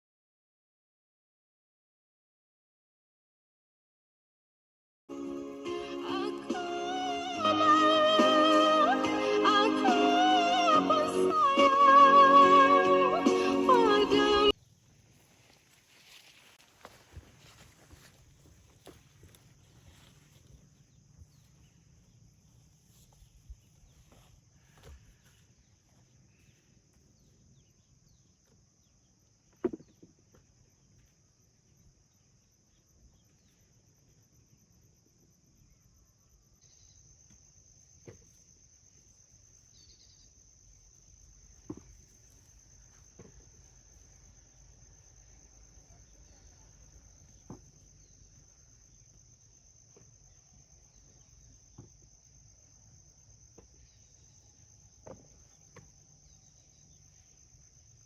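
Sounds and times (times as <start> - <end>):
crickets chirring: 5.1 - 58.0.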